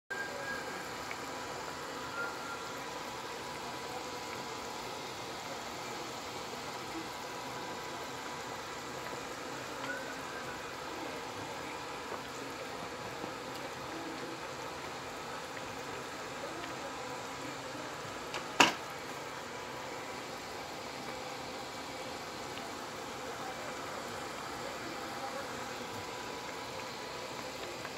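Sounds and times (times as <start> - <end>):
pot simmering with bubbling hiss: 0.1 - 27.9.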